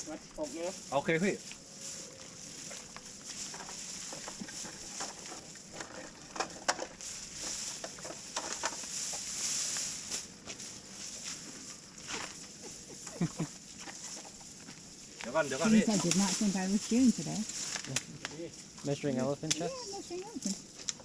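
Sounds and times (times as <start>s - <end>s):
crunching and rustling clicks: 0.0s - 21.0s
steady high hiss: 0.0s - 21.0s.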